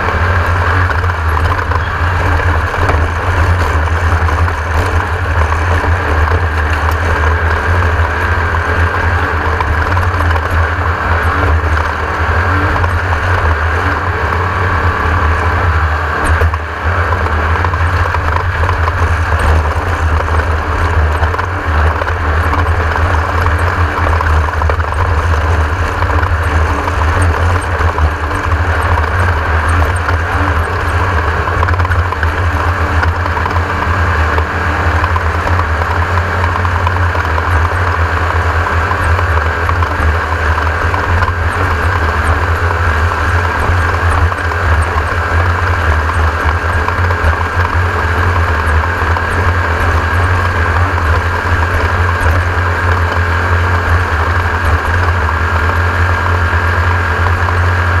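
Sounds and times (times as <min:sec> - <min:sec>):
buggy engine running hard: 0:00.0 - 0:58.0.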